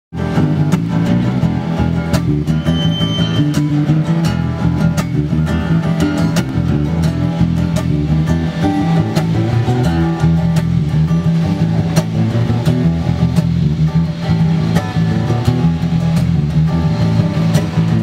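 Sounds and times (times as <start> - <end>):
band playing guitar-led music: 0.1 - 18.0.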